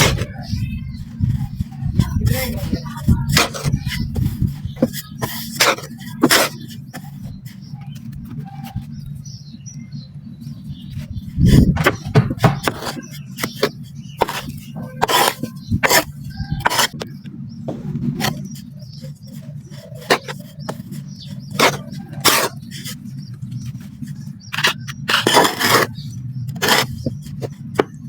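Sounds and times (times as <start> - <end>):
gritty sand crunching: 0.0 - 9.0, 11.4 - 28.0
low background rumble: 0.0 - 28.0.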